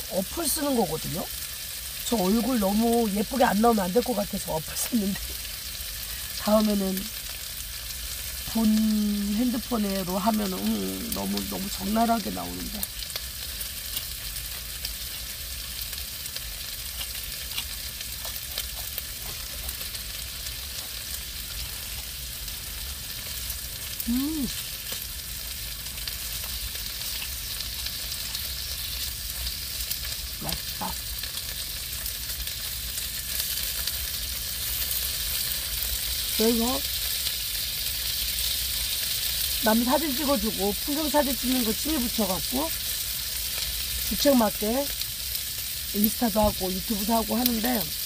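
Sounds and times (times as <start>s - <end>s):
food sizzling in a frying pan: 0.0s - 48.0s.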